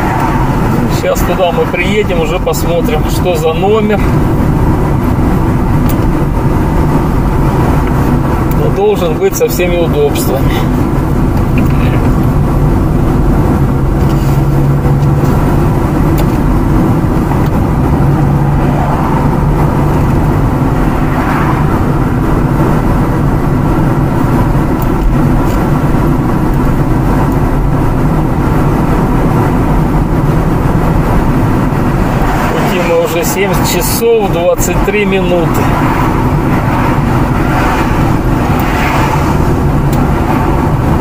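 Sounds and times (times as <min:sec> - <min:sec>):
car engine and tyre drone: 0:00.0 - 0:41.0.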